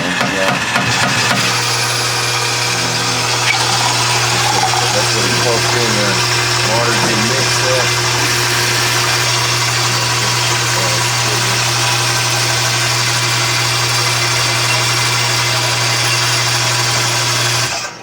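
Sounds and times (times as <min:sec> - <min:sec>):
vending machine motor humming: 0:00.0 - 0:18.0.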